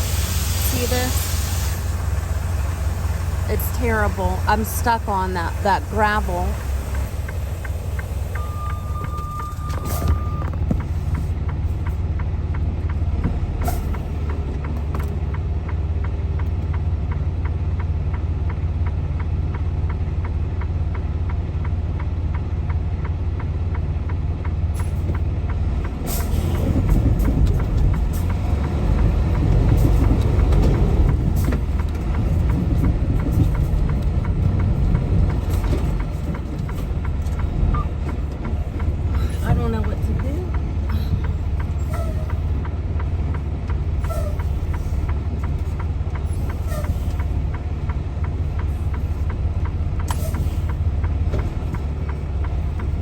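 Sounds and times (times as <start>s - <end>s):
diesel truck engine straining: 0.0s - 53.0s.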